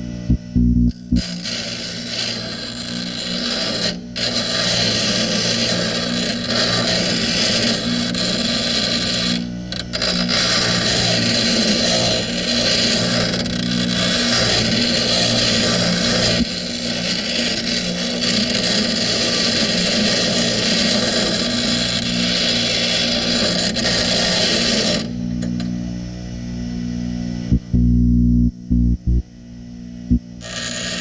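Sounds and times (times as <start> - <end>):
grinder grinding metal: 0.5 - 25.7, 30.4 - 31.0.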